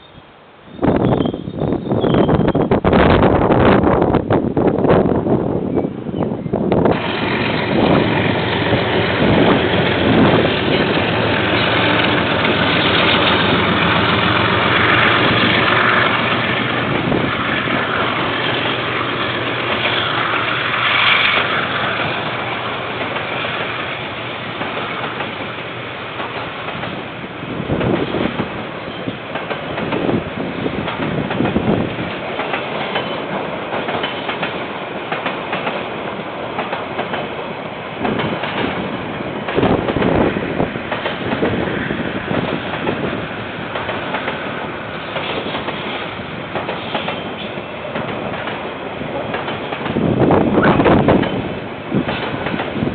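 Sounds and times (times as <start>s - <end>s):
train wheels clattering: 6.9s - 52.9s.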